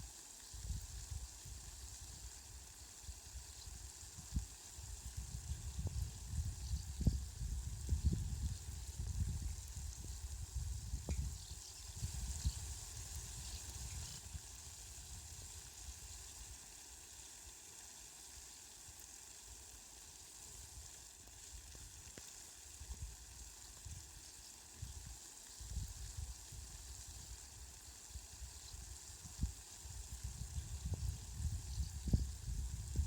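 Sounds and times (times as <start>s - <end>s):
fine rain hiss: 0.0s - 33.0s.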